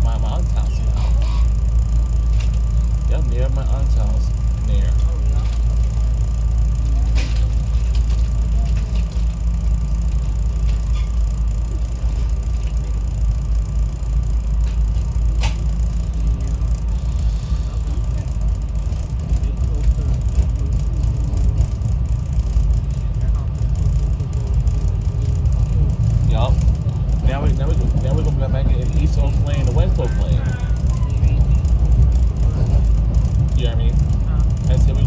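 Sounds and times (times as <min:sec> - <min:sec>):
train rumbling inside car: 0:00.0 - 0:35.0.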